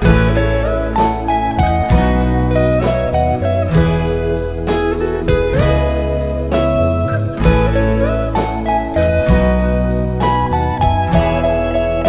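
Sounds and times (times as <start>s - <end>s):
guitar-led music with beat: 0.0s - 12.0s.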